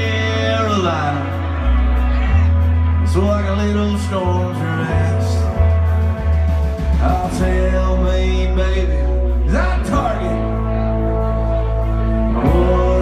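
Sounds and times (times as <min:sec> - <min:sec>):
country-rock band playing: 0:00.0 - 0:13.0.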